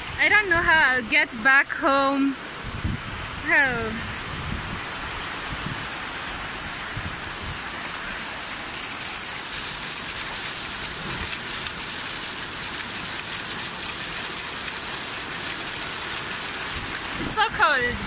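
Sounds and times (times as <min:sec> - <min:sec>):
water gushing from a drainpipe: 0:00.0 - 0:18.0
heavy rain on pavement: 0:02.2 - 0:18.0.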